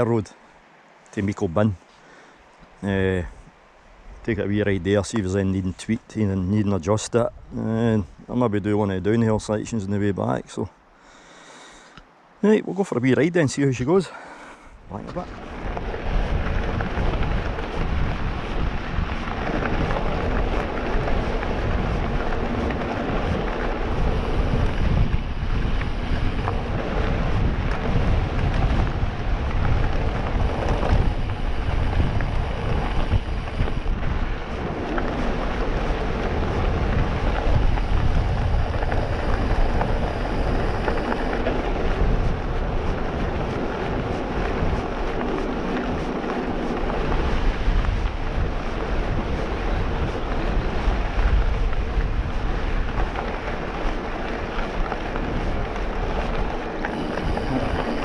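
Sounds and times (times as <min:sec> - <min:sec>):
wind buffeting microphone: 0:02.6 - 0:10.4, 0:13.1 - 0:58.0.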